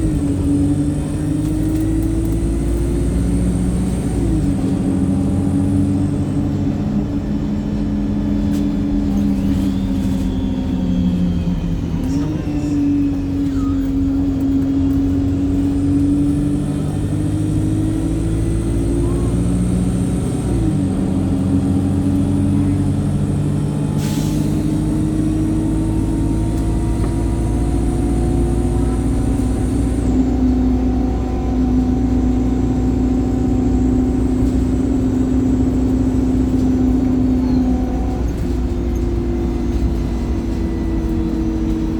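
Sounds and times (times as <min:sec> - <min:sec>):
bus diesel engine under load: 0:00.0 - 0:41.9.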